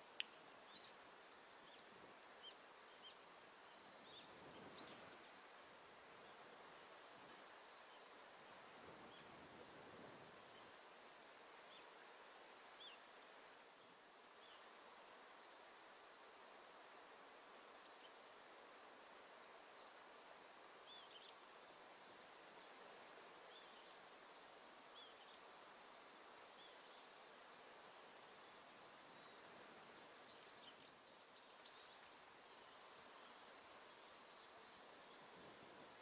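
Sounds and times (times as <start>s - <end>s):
soft steady hiss: 0.0s - 36.0s.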